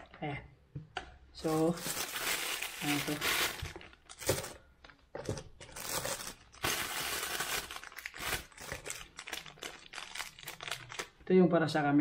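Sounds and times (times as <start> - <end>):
plastic packaging crinkling: 1.4 - 11.2.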